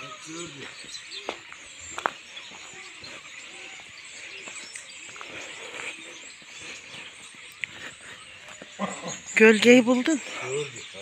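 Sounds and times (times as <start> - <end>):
starlings chirping and whistling: 0.0 - 11.0.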